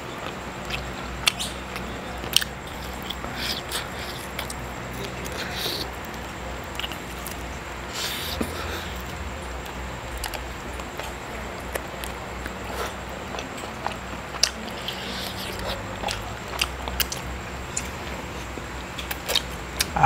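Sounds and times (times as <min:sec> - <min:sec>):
chewing and biting meat: 0:00.2 - 0:18.1, 0:19.0 - 0:19.9.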